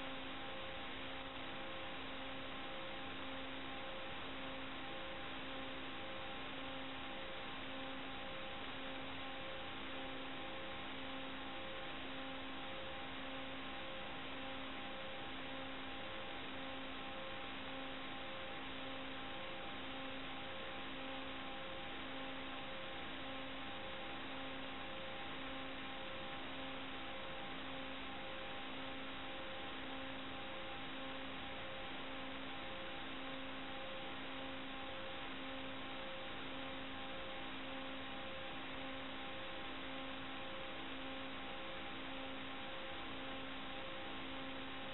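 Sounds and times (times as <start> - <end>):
faint high steady tones: 0.0 - 44.9.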